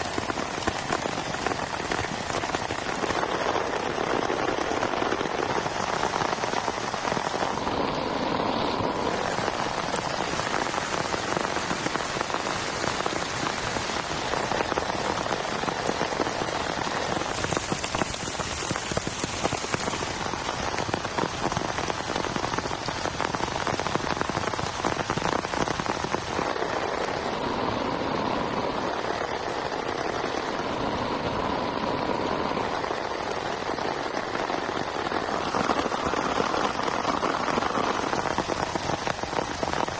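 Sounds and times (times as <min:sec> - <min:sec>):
heavy rain falling: 0:00.0 - 0:39.9
raindrops striking close by: 0:00.0 - 0:39.9.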